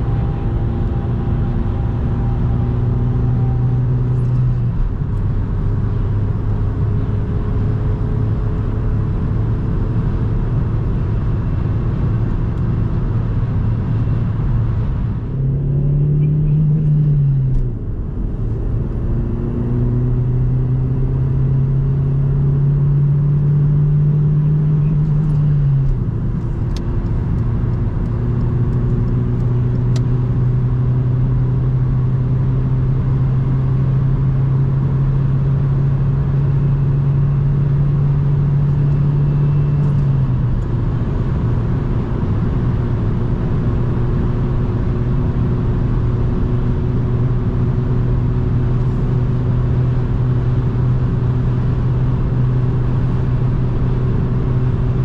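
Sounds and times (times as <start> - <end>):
car engine at steady speed: 0.0 - 55.0.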